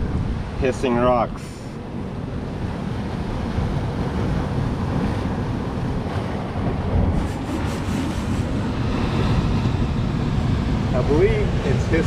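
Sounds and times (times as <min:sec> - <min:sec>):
surf washing among boulders: 0:00.0 - 0:12.0
wind rumbling on microphone: 0:00.0 - 0:12.0.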